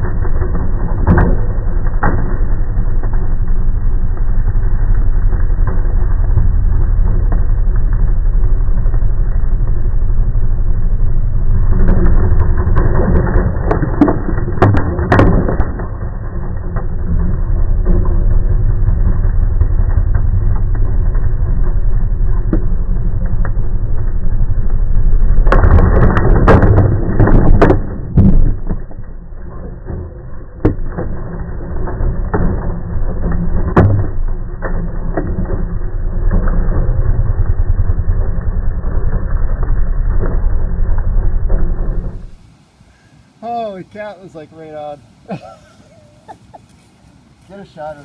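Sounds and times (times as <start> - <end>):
lawn mower engine humming: 0.0 - 48.0.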